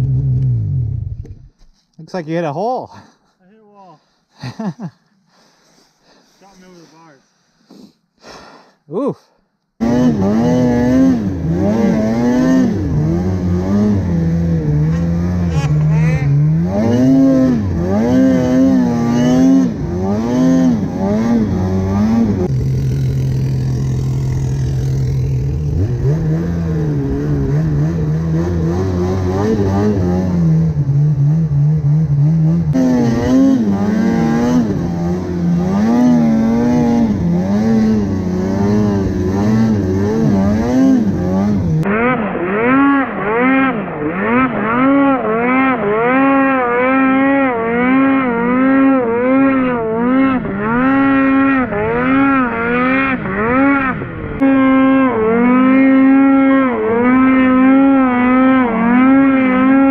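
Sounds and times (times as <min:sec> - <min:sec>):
snowmobile engine revving: 0:09.8 - 0:59.9.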